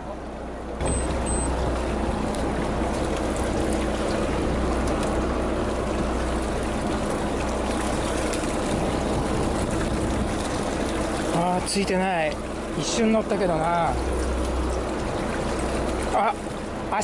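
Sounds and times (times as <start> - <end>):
boat engine humming: 0.0 - 17.0
sea water washing around hull: 0.0 - 17.0.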